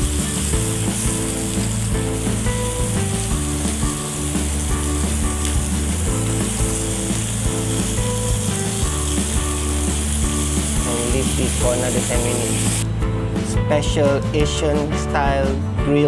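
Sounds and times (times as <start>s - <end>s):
fish sizzling in oil: 0.0s - 12.9s
background music with bass line: 0.0s - 16.0s.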